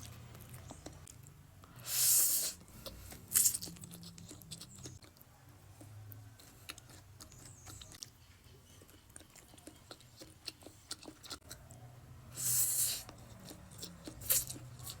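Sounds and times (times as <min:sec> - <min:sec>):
soft chewing: 0:00.0 - 0:15.0.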